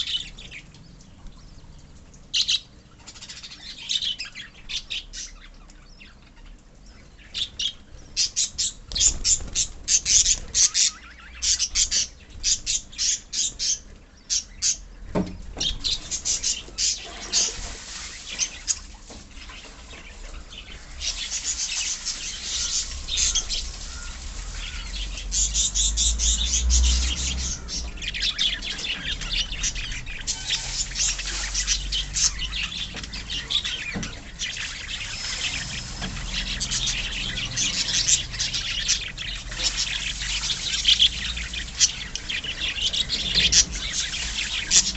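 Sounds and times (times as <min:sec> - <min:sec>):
caged birds chirping and chattering: 0:00.0 - 0:44.9.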